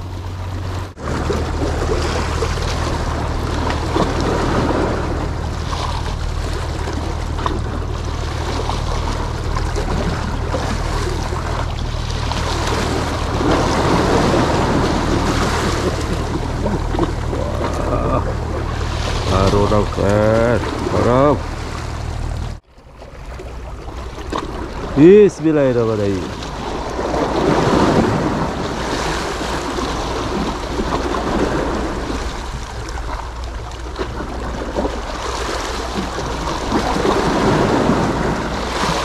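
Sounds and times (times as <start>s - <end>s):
sea waves splashing on rocks: 0.0s - 39.0s
wind rumbling on microphone: 0.0s - 39.0s.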